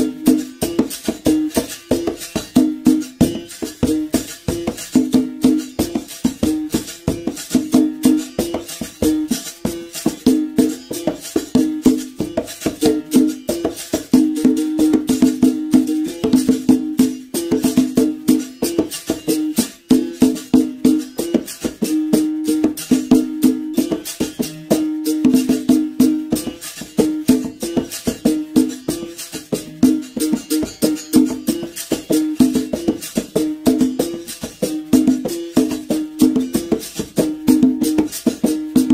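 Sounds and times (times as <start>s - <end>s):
caxixi rattle shaking: 0.0s - 38.9s.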